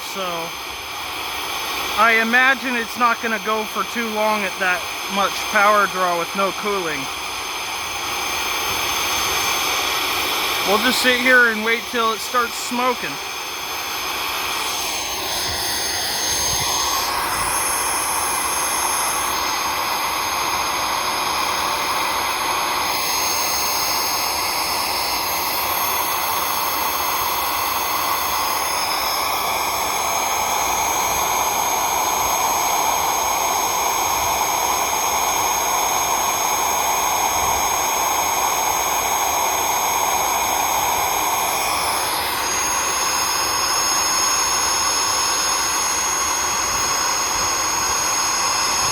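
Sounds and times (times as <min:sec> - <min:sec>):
vacuum cleaner motor whining: 0:00.0 - 0:48.9.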